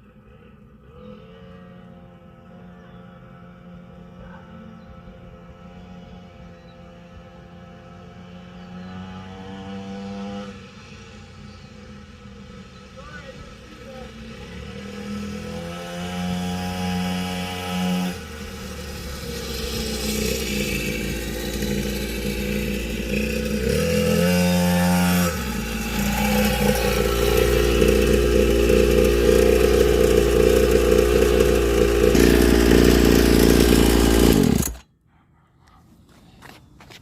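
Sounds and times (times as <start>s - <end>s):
dirt bike engine running hard: 0.2s - 34.8s.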